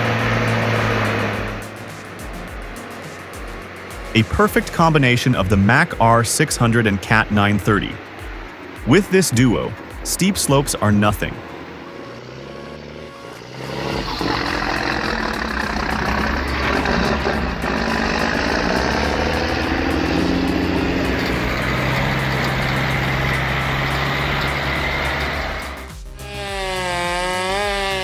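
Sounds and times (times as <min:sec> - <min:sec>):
heavy machine engine running: 0:00.0 - 0:28.0.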